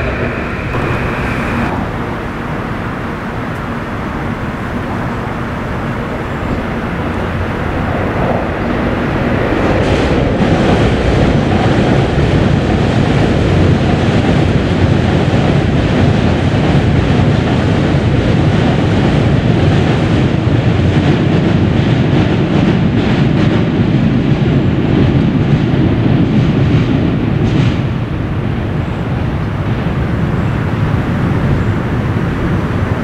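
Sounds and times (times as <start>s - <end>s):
train crossing steel bridge: 0.0s - 33.0s.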